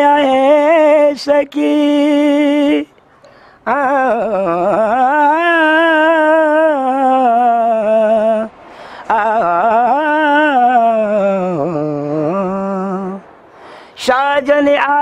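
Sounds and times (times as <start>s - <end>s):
man singing unaccompanied: 0.0s - 3.0s, 3.6s - 13.3s, 13.9s - 15.0s.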